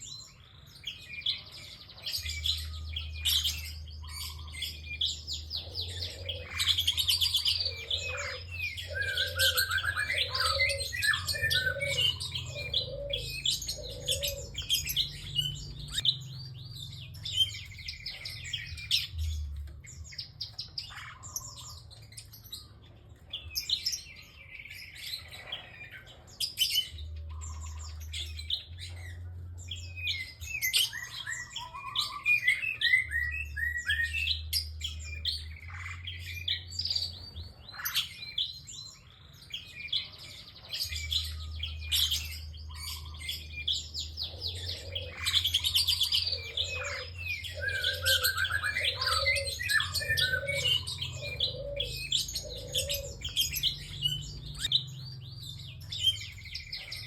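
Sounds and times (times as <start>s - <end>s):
bird singing rapid trills: 0.0s - 57.0s.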